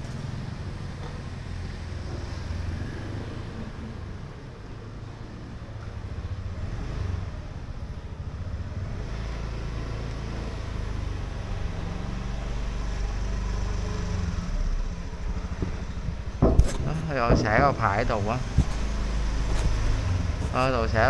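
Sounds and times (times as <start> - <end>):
passing vehicle engines rumbling: 0.0 - 21.0.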